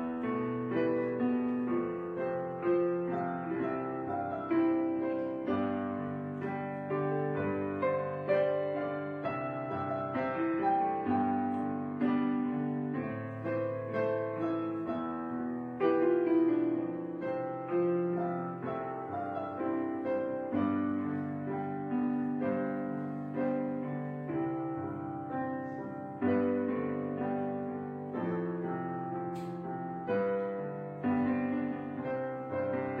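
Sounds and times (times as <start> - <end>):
solo piano: 0.0 - 33.0.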